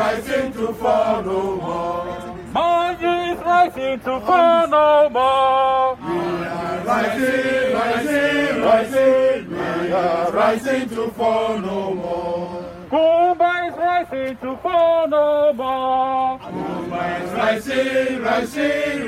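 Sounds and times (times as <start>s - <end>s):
crowd singing a chant: 0.0s - 19.0s.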